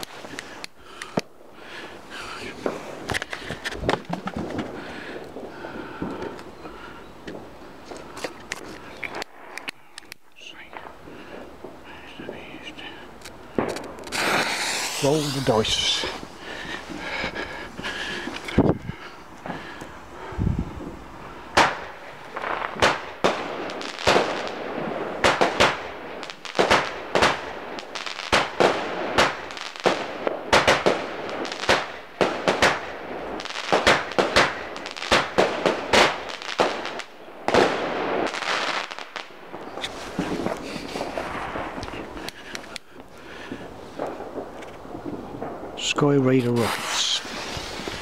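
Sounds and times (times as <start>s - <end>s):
firework bangs: 0.0s - 9.7s, 10.7s - 48.0s
firework crackling: 0.0s - 48.0s.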